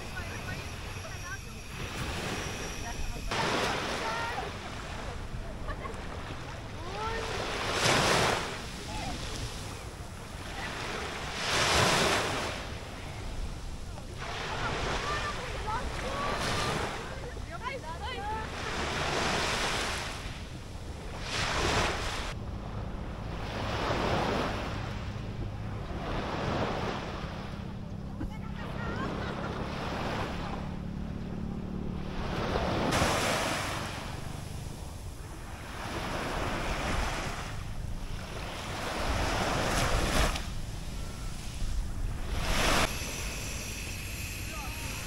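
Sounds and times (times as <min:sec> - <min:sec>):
small waves breaking on beach: 0:00.0 - 0:45.0
wind rumbling on microphone: 0:00.0 - 0:45.0.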